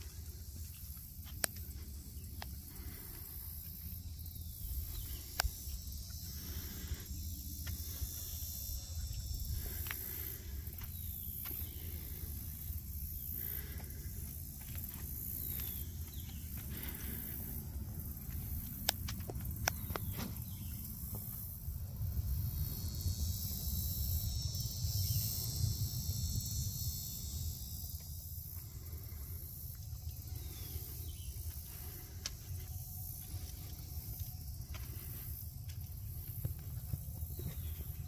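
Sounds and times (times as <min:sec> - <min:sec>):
high insect buzz: 0:00.0 - 0:38.0.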